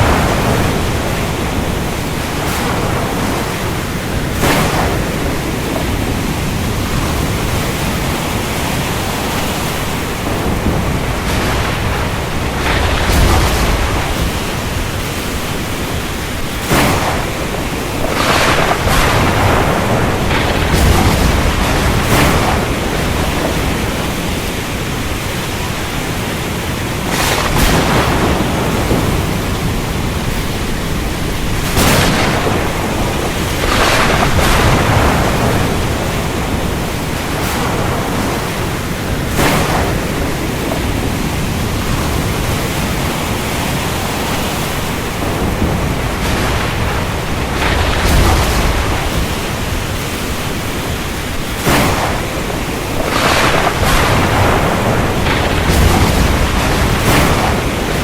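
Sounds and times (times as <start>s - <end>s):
heavy rain: 0.0s - 58.0s
low thunder rumbling: 0.0s - 58.0s
thunder cracks: 0.0s - 58.0s.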